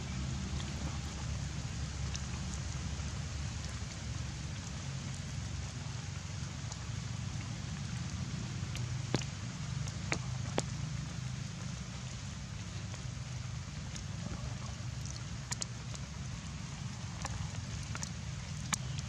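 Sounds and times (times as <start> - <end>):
light rain hiss: 0.0 - 19.0
sharp water drips: 0.0 - 19.0.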